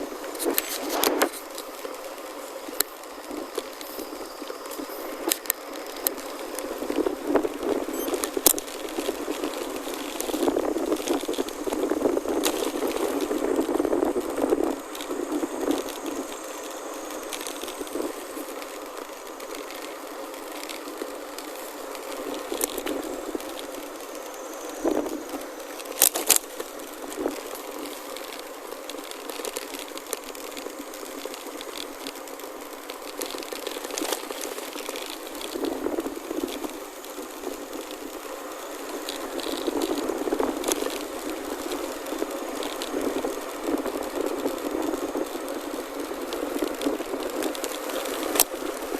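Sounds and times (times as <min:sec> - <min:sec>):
bike rattling: 0:00.0 - 0:48.9
tyres rolling on gravel: 0:00.0 - 0:48.9.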